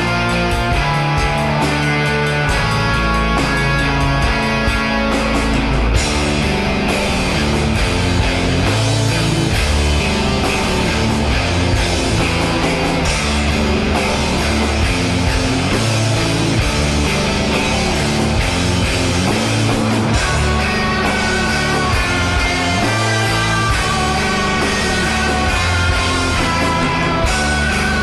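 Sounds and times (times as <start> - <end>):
rock music with distorted guitar: 0.0 - 28.0.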